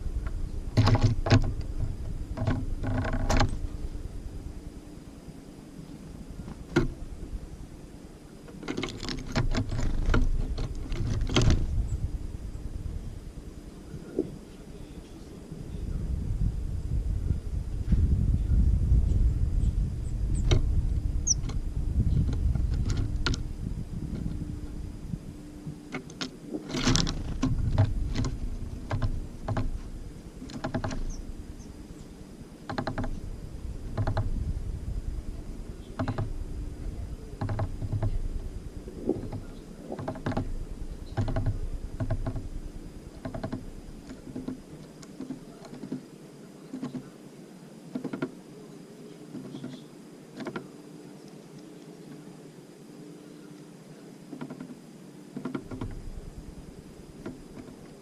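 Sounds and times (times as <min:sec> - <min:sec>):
birds pecking at feeder: 0:00.0 - 0:07.6, 0:08.3 - 0:15.9, 0:20.0 - 0:52.4, 0:53.2 - 0:58.0
low wind rumble: 0:00.0 - 0:47.2, 0:54.8 - 0:58.0.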